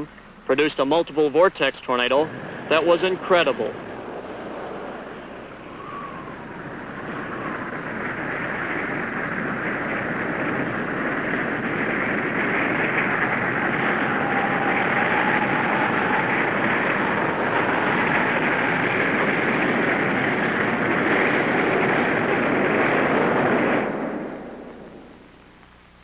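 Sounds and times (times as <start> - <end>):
tornado wind roaring: 1.3 - 25.6.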